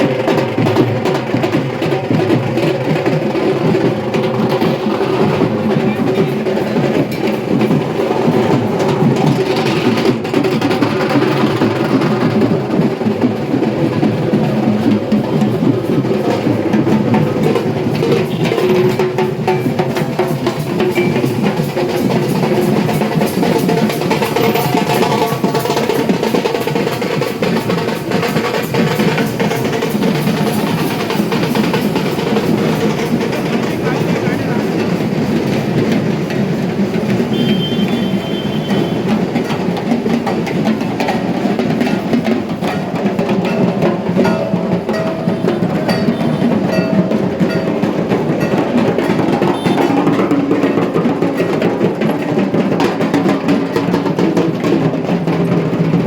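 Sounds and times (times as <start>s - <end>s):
barrel drums beaten fast: 0.0s - 56.0s.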